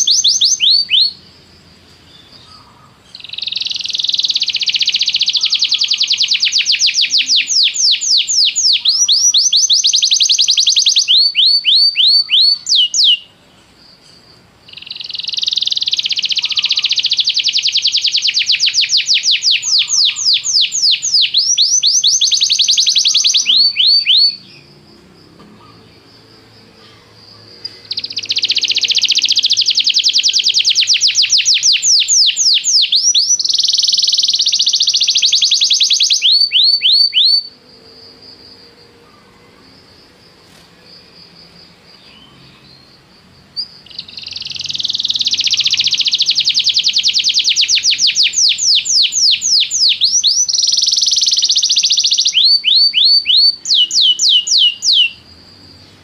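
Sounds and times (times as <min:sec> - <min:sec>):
canary singing: 0:00.0 - 0:40.6, 0:41.4 - 0:56.0.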